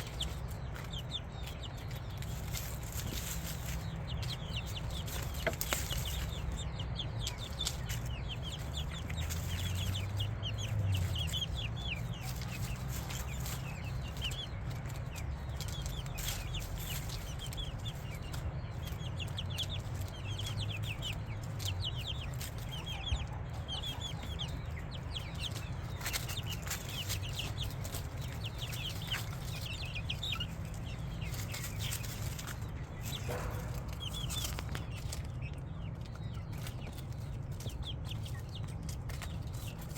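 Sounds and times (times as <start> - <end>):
chickens chirping and clucking: 0.0 - 39.9.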